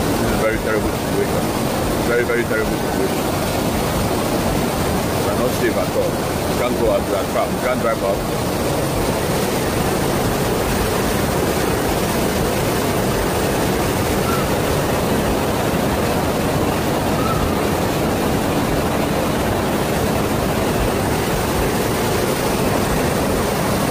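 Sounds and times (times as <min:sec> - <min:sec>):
floodwater rushing: 0:00.0 - 0:23.9.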